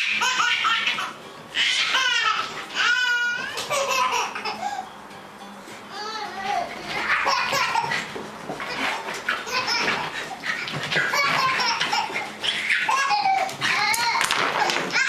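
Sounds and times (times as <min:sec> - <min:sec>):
baby giggling: 0:00.0 - 0:04.8, 0:06.0 - 0:15.0.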